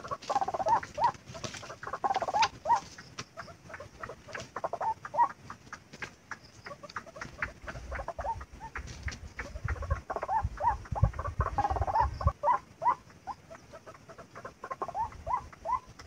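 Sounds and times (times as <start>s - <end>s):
waterhen calling hoarse notes: 0.0s - 16.0s.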